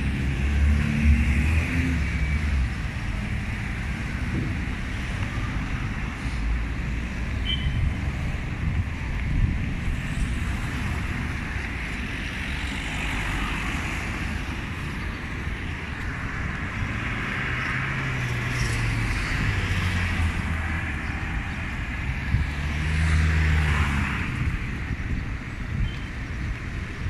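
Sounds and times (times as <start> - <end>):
cars driving past: 0.0 - 27.0
tyre and street noise: 0.0 - 27.0.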